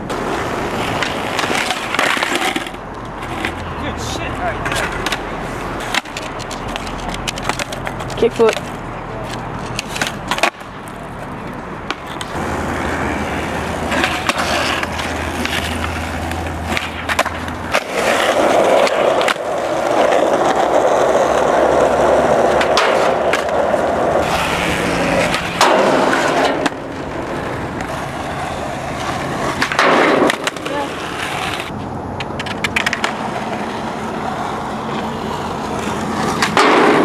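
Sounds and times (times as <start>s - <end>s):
skateboard clacks: 0.0s - 37.0s
skateboard wheels rolling: 0.0s - 37.0s.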